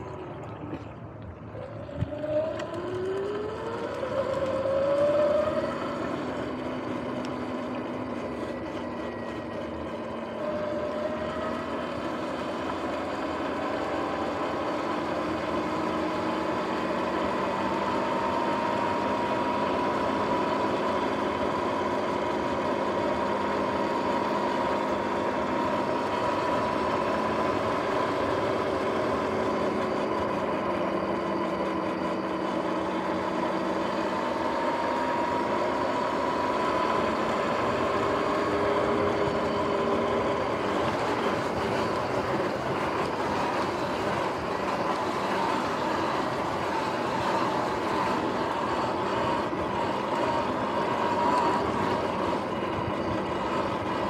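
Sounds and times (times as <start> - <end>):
electric motorbike drive whining: 0.0 - 54.0.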